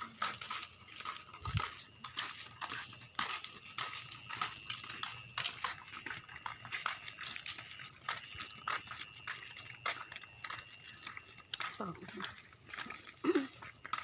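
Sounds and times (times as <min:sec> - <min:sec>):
footsteps on a path: 0:00.0 - 0:14.0
night insects droning: 0:00.0 - 0:14.0.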